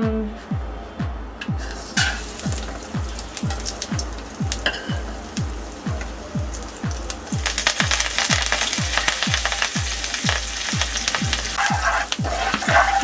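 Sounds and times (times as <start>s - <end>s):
hot oil sizzling and spluttering: 1.6s - 13.0s.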